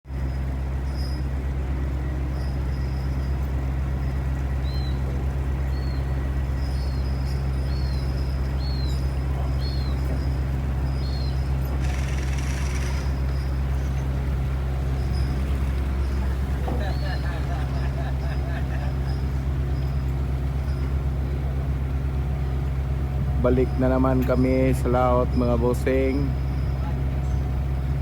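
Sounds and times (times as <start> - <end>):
boat engine droning: 0.1 - 28.0.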